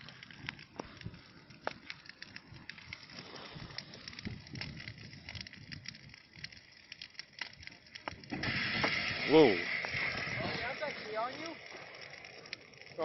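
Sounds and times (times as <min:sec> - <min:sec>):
fire crackling and popping: 0:00.0 - 0:13.0
low rushing of flame: 0:00.0 - 0:13.0.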